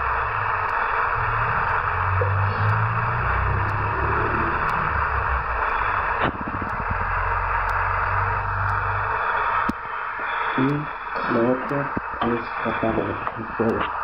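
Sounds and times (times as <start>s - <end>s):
pot of rice boiling: 0.0s - 14.0s.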